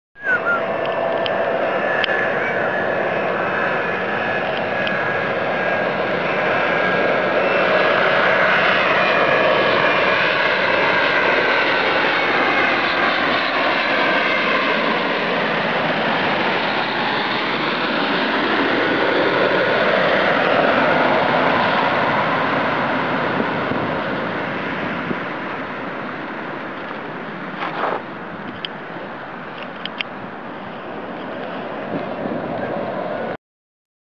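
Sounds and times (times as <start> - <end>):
jet engine rumble with whine: 0.2 - 33.4.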